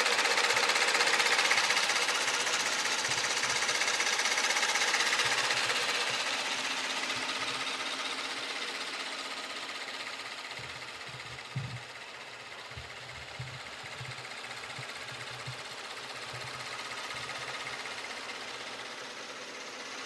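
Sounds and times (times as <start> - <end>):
car engine idling with ticking: 0.0 - 20.0.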